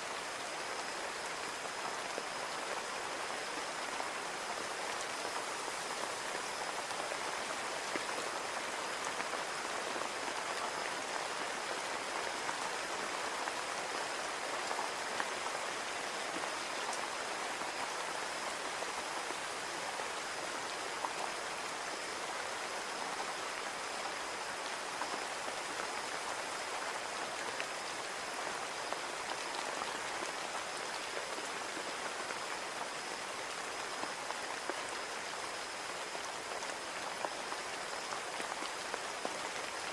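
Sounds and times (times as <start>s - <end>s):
rain falling on a window: 0.0s - 39.9s.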